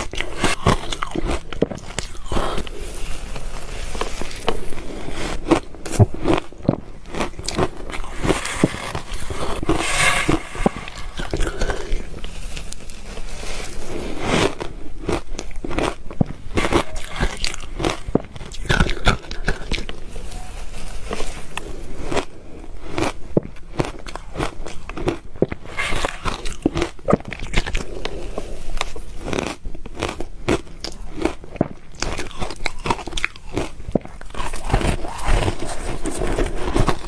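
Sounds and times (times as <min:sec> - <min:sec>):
ice being chewed: 0:00.0 - 0:09.7, 0:11.2 - 0:37.0.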